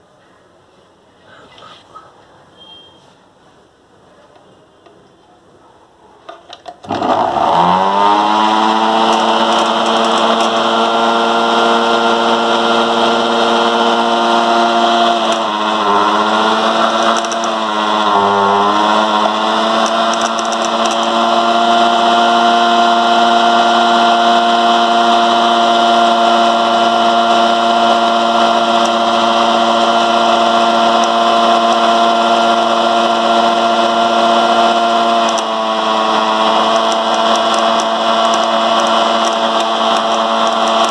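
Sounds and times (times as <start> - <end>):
electric motor whine: 6.8 - 40.9.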